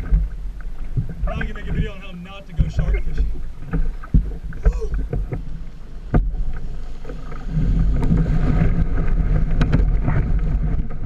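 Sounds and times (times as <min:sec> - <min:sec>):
surf breaking and rushing: 0:00.0 - 0:11.0
wind buffeting microphone: 0:00.0 - 0:11.0.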